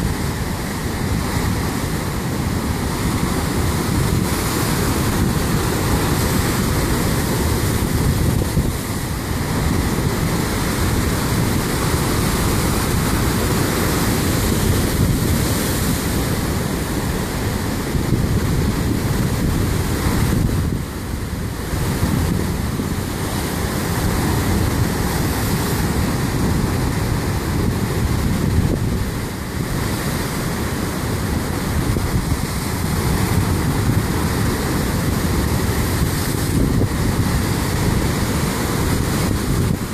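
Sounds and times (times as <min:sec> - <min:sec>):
surf breaking over rocks: 0:00.0 - 0:39.9.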